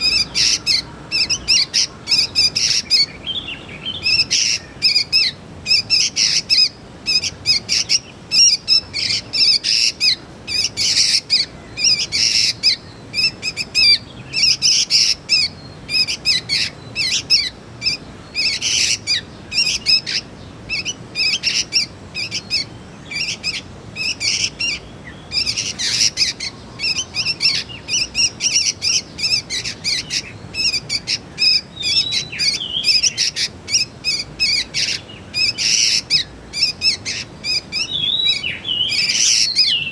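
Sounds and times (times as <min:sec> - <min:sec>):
young bulbuls chirping: 0:00.0 - 0:39.9.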